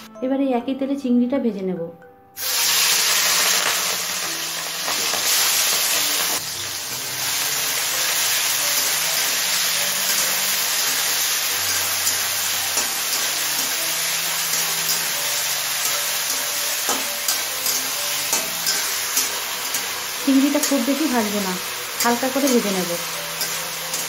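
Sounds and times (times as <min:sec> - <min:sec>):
prawns sizzling in hot oil: 0:02.4 - 0:24.0.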